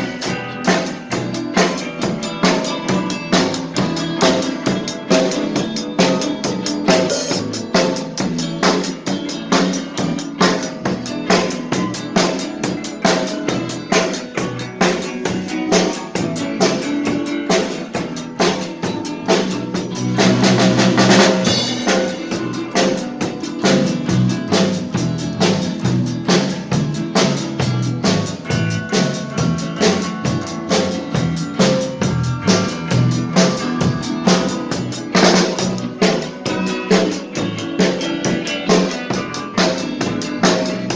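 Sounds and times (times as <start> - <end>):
band playing: 0.0 - 40.9
drum kit beat: 0.0 - 40.9.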